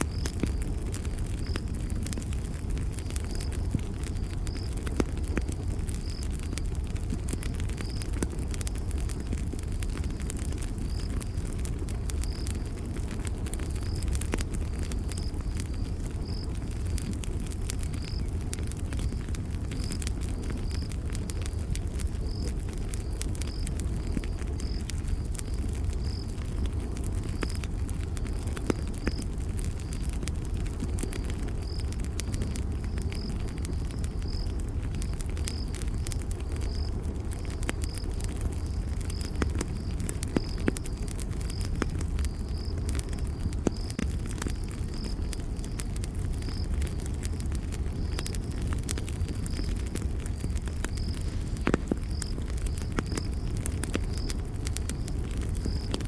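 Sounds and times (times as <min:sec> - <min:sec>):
campfire crackling and popping: 0:00.0 - 0:56.0
cricket chirping: 0:00.0 - 0:56.0
low rumble of flames: 0:00.0 - 0:56.0.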